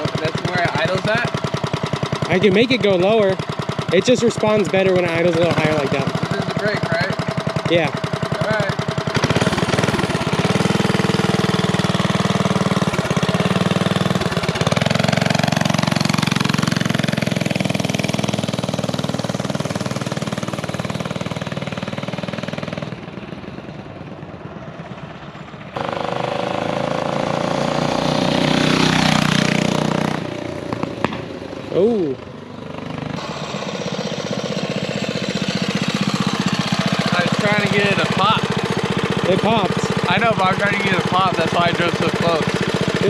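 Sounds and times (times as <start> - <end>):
minibike engine revving: 0.0 - 43.0.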